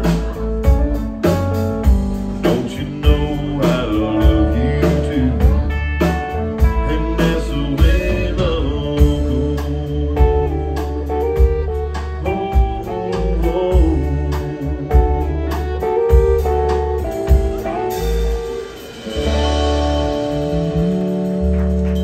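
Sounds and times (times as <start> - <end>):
drum kit beat: 0.0 - 22.0
electric bass: 0.0 - 22.0
fiddle: 0.0 - 22.0
guitar: 0.0 - 22.0.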